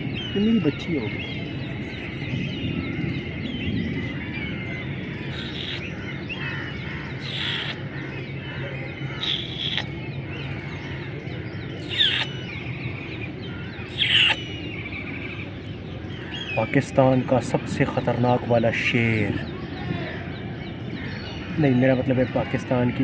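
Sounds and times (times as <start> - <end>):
birds chirping and twittering: 0.0 - 23.0.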